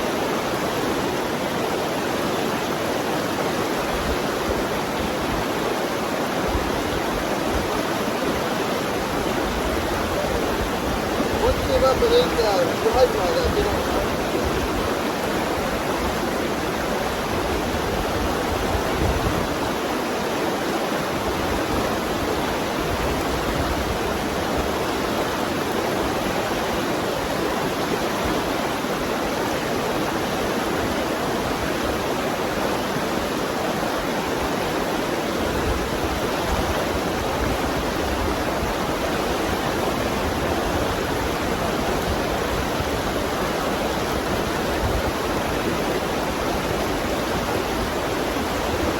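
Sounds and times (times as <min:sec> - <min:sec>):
river rushing over rocks: 0:00.0 - 0:48.9.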